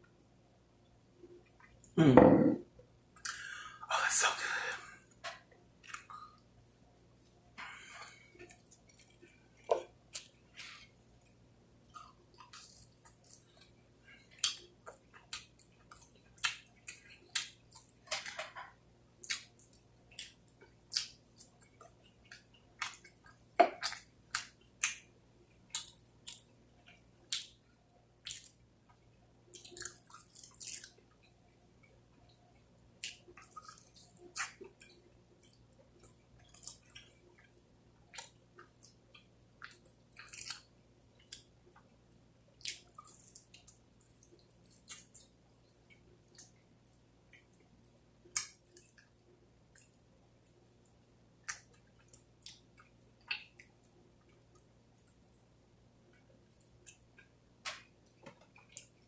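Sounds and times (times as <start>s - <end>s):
person chewing and lip smacking: 5.2s - 6.4s, 8.0s - 18.5s, 19.2s - 32.4s, 33.0s - 55.4s, 56.1s - 59.0s.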